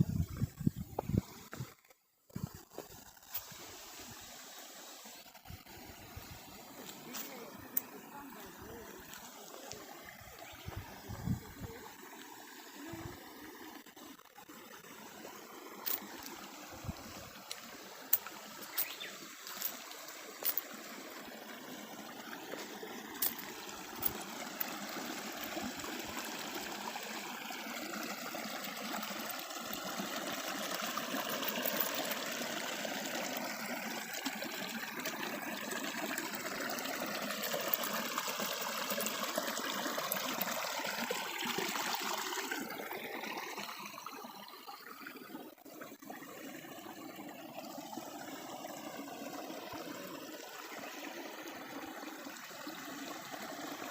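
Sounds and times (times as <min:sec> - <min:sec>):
brook babbling: 0:00.0 - 0:53.9.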